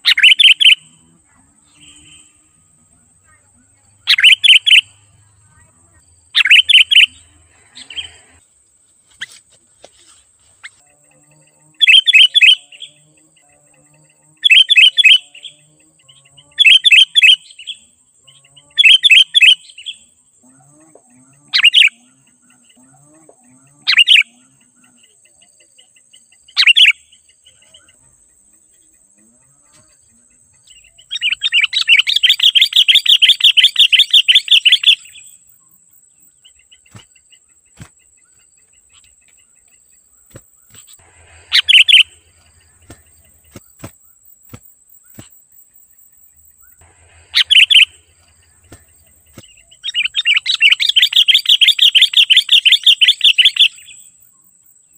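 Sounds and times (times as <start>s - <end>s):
bulbul calling: 0.0s - 8.4s, 11.8s - 13.1s, 14.4s - 17.8s, 18.6s - 20.1s, 21.0s - 29.0s, 29.8s - 35.4s, 36.3s - 45.4s, 46.6s - 54.1s.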